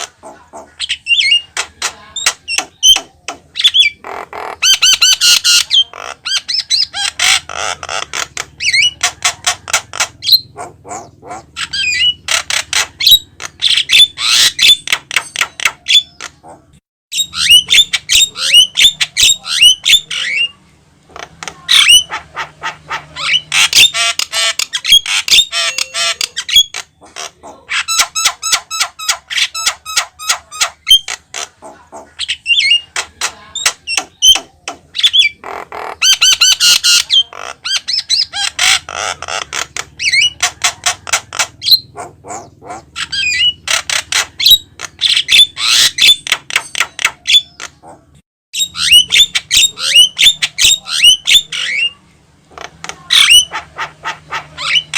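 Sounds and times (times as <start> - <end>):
myna squawking and chirping: 0.0 - 54.9.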